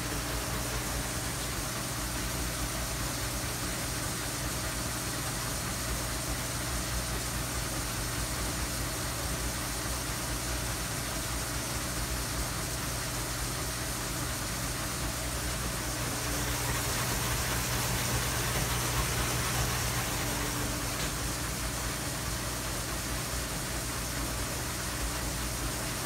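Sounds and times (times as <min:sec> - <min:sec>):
dishwasher hum: 0:00.0 - 0:26.0
pump and water spray rushing: 0:00.0 - 0:26.0.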